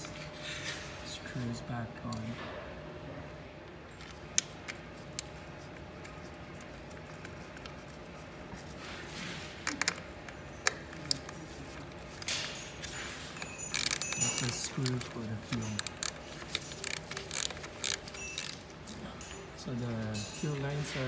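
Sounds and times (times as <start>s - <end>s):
rustling handling noise: 4.0s - 21.0s.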